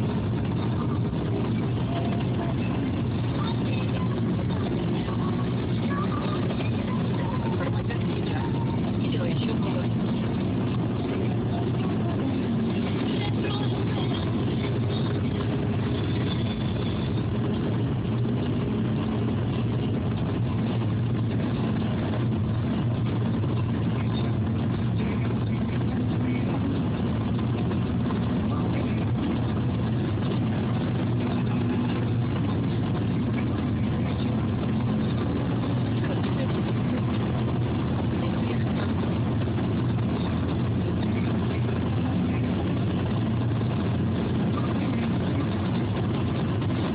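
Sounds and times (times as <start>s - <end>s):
car cabin engine and road rumble: 0.0s - 46.9s.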